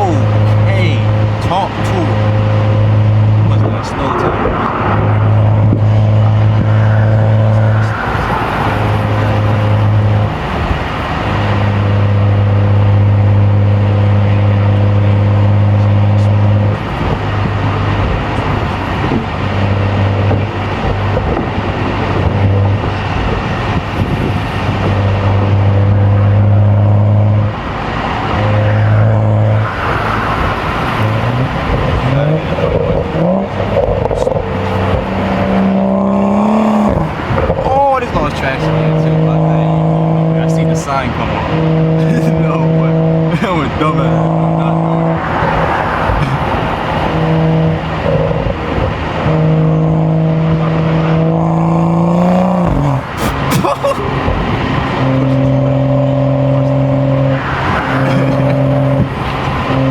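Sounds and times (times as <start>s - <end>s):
car engine droning and revving: 0.0s - 59.9s.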